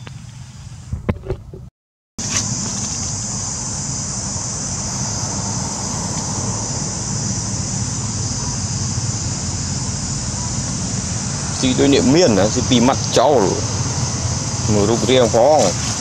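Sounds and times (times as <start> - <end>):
insects droning: 0.0 - 1.0, 2.2 - 16.0
low rumbling haze: 2.7 - 16.0.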